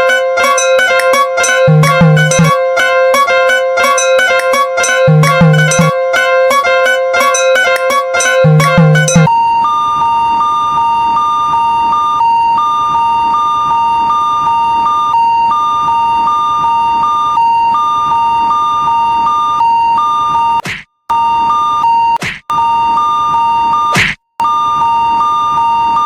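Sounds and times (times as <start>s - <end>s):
railroad crossing alarm beeping: 0.0s - 26.0s.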